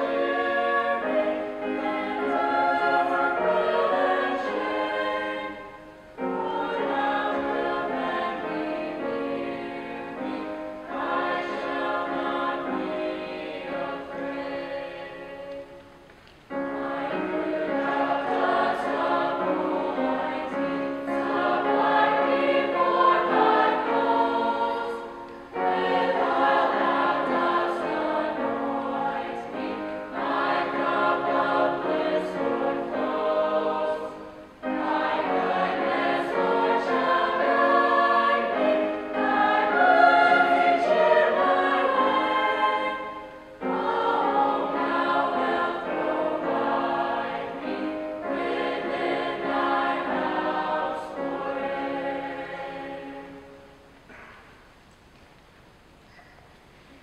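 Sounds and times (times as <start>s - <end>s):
mixed choir singing: 0.0s - 54.0s
grand piano: 0.0s - 57.0s.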